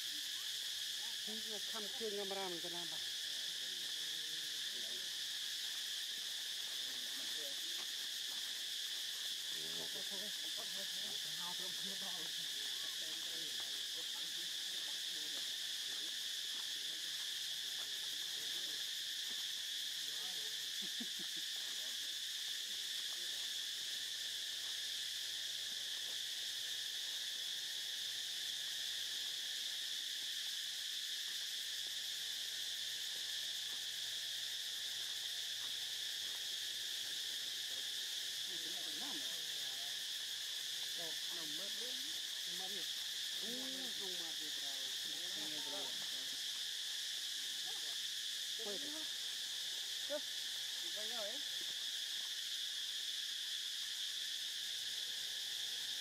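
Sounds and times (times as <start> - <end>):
insect chorus drone: 0.0 - 56.0.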